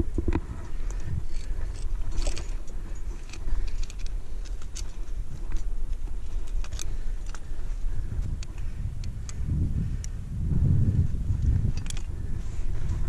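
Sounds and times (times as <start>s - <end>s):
climbing gear clicking on rock: 0.0s - 13.0s
wind rumbling on microphone: 0.0s - 13.0s.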